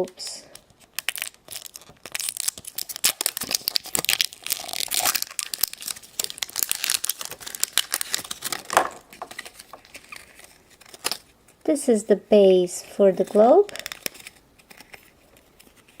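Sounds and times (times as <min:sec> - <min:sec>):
packaging being torn and crinkled: 0:00.6 - 0:11.4, 0:13.6 - 0:16.0.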